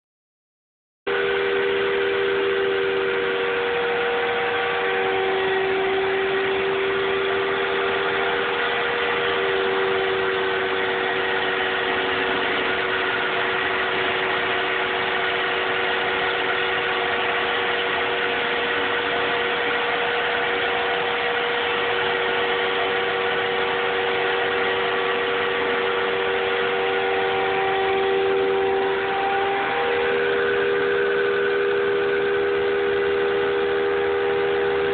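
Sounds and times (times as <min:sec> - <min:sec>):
router spindle carving wood: 0:01.1 - 0:34.9.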